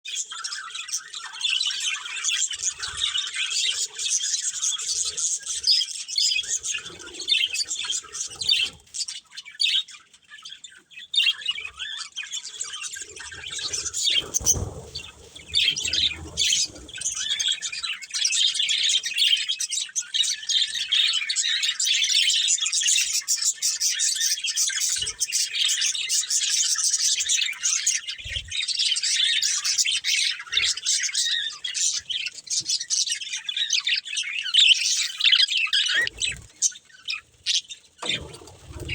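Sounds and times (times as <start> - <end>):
budgerigars chirping: 0.1 - 38.9.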